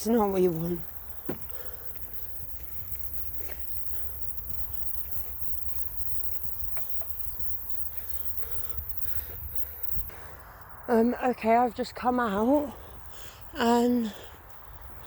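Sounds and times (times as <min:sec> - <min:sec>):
footsteps on outdoor path: 0:00.0 - 0:10.8, 0:11.9 - 0:15.0.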